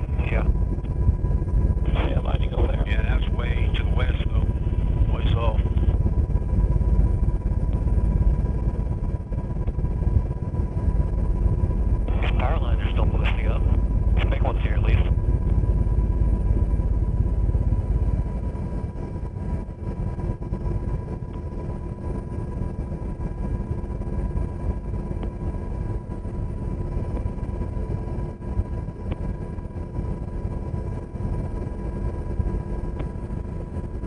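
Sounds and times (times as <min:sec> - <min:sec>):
helicopter rotors low rumble: 0:00.0 - 0:34.0
turbine engine whine: 0:00.0 - 0:34.0.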